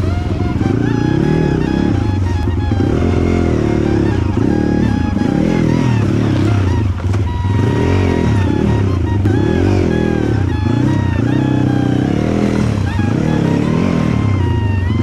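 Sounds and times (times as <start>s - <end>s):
background music: 0.0s - 15.0s
dirt bike engine revving: 0.0s - 15.0s.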